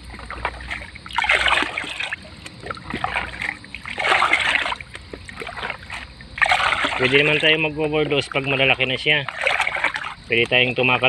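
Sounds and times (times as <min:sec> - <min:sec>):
water splashing into plastic basin: 0:00.0 - 0:11.0.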